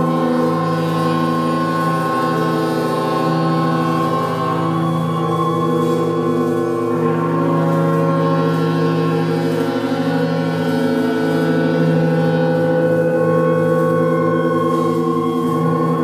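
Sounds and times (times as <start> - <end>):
electronic drone of held tones: 0.0 - 16.0.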